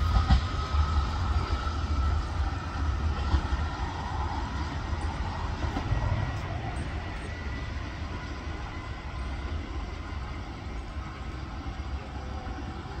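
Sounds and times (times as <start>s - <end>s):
electric train running rumble: 0.0s - 13.0s.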